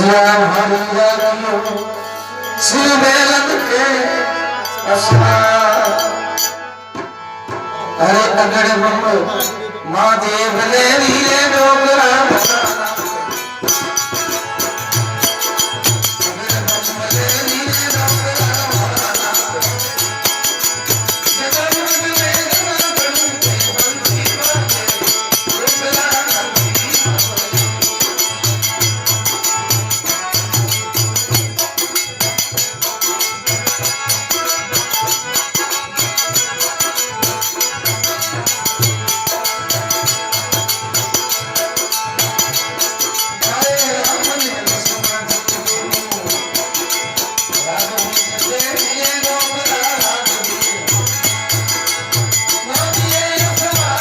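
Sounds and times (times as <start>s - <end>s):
fast jingling percussion: 0.0s - 7.1s, 10.6s - 54.0s.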